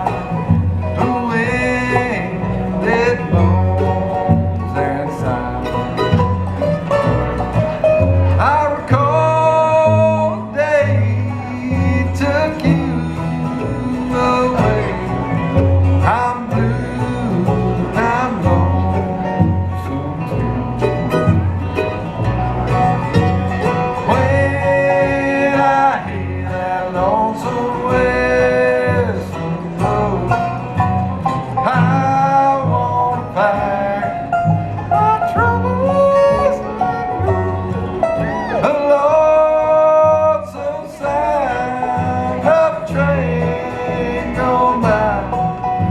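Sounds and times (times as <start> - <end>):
banjo picking: 0.0 - 45.9
bass line: 0.0 - 45.9
bluegrass band playing: 0.0 - 45.9
mandolin picking: 0.0 - 45.9.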